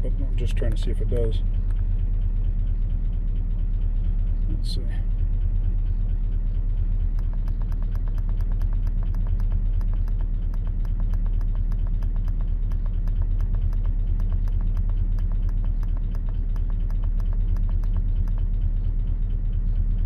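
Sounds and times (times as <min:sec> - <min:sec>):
car engine idling: 0:00.0 - 0:20.0
engine tapping: 0:00.0 - 0:20.0.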